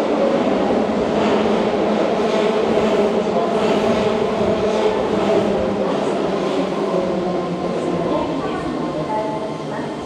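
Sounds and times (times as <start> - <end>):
electric train whine and rumble: 0.0 - 10.0.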